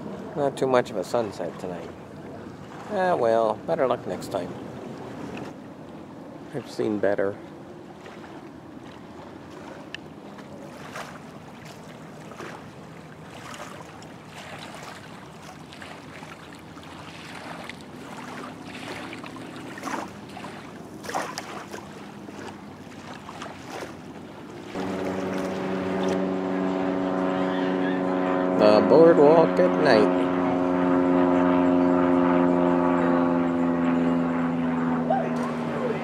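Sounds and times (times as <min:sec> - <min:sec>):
droning hum: 0:00.0 - 0:36.0
small waves lapping: 0:00.0 - 0:36.0.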